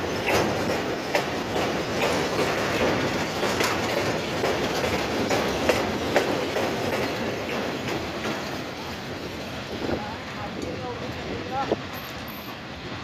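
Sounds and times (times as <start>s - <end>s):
train wheels clattering over rail joints: 0.0s - 12.7s
steady train rumble: 0.0s - 13.0s.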